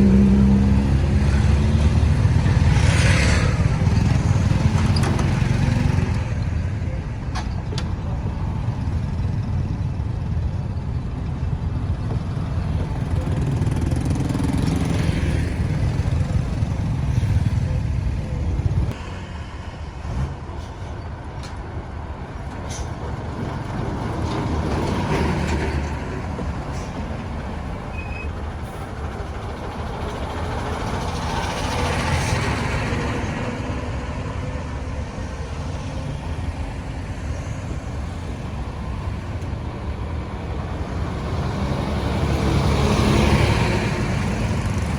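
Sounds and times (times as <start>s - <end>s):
vehicles driving past: 0.0s - 44.9s.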